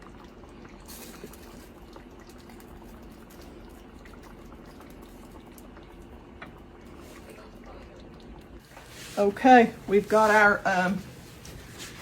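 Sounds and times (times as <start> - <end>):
gravy simmering in a skillet: 0.0 - 10.6.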